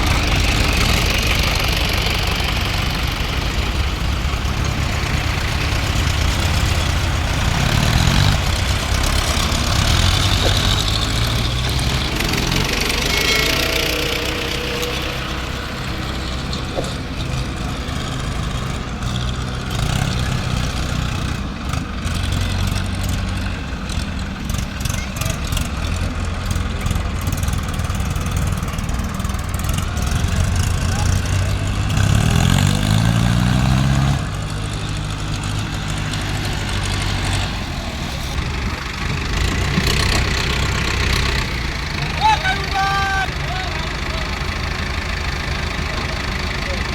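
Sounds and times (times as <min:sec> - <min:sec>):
diesel engines running: 0:00.0 - 0:46.9
engine revving up: 0:00.0 - 0:46.9.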